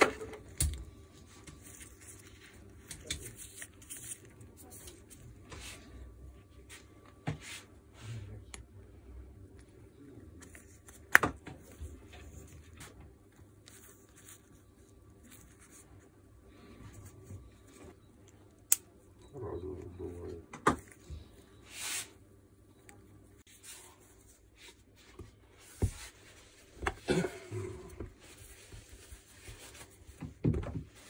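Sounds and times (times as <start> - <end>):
rustling and handling noises: 0.0 - 8.8, 9.4 - 18.8, 22.8 - 31.0.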